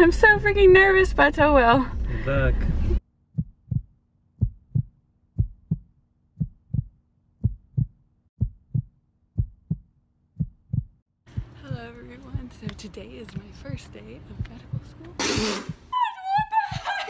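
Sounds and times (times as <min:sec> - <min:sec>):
heartbeat thumps: 0:00.0 - 0:17.0.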